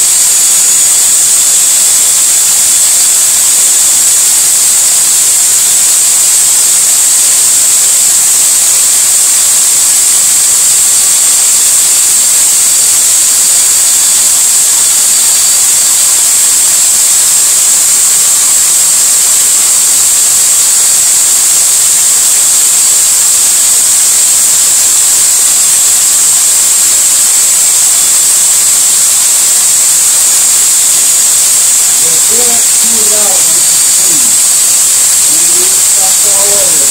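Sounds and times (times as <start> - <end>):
power drill running: 0.0 - 36.9.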